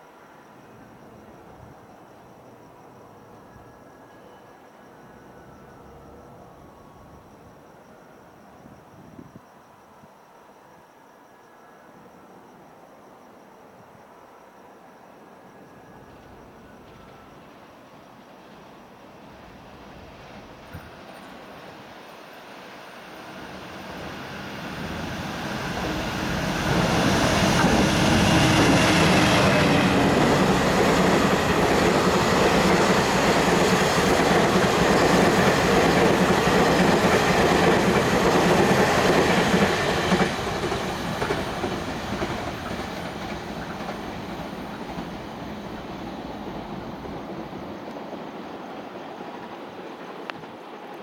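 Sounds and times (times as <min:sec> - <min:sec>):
train passing at speed: 0:00.0 - 0:51.0.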